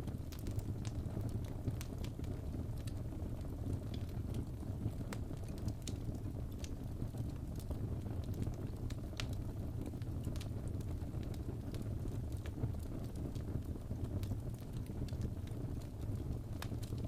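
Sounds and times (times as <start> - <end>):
fire pops and snaps: 0.0 - 17.0
low rumble of flames: 0.0 - 17.0.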